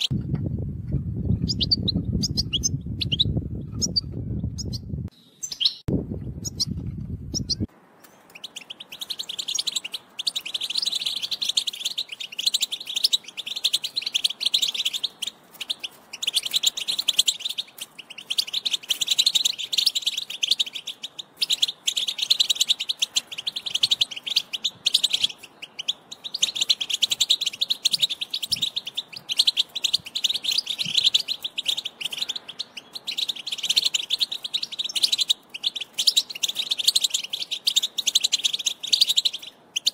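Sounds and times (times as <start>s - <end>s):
goldfinch twittering song: 1.2s - 39.9s.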